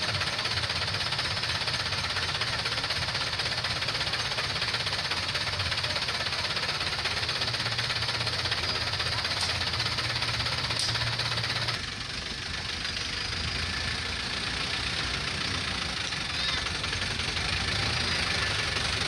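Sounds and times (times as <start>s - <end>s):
diesel engine knocking: 0.0s - 19.0s.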